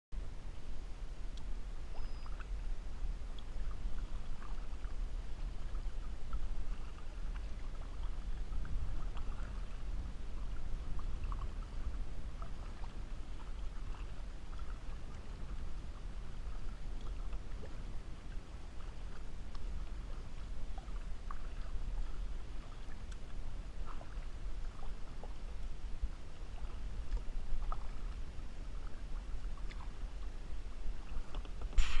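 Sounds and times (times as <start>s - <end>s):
steady low rumble: 0.2s - 20.8s, 25.2s - 32.0s
paddle splashes and drips: 1.2s - 32.0s.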